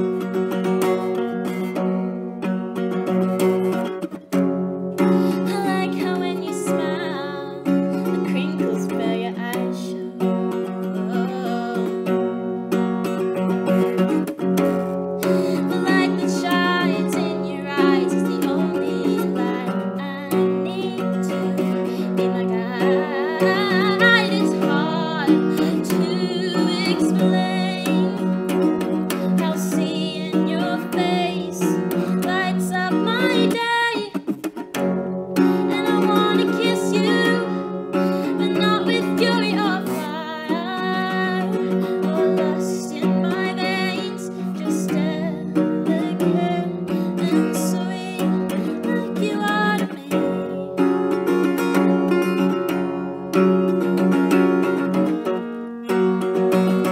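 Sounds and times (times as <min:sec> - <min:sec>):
acoustic guitar strumming: 0:00.0 - 0:56.9
woman singing: 0:04.9 - 0:56.9.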